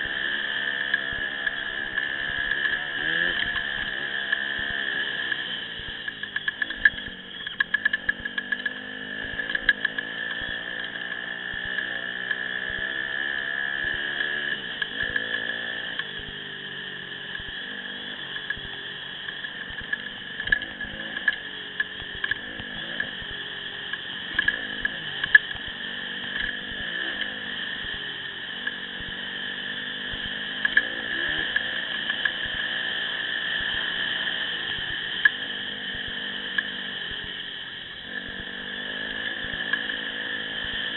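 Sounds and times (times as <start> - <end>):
dirt bike engine revving: 0.0 - 40.9
steady high whine: 0.0 - 40.9.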